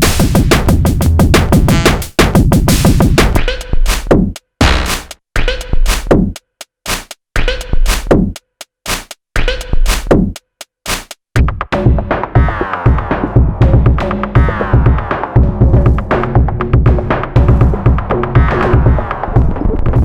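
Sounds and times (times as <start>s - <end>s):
electronic drum pattern: 0.0s - 20.0s.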